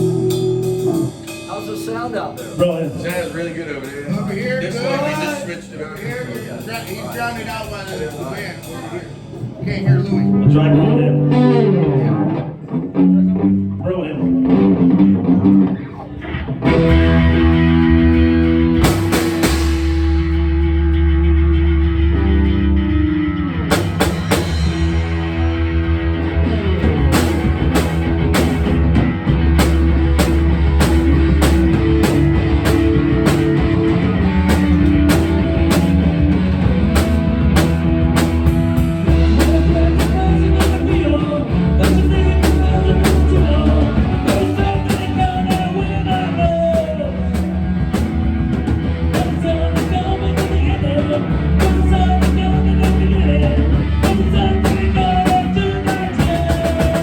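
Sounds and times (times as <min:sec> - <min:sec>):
drum beat: 0:00.0 - 0:09.6, 0:16.7 - 0:20.7, 0:23.7 - 0:57.0
live rock band: 0:00.0 - 0:57.0.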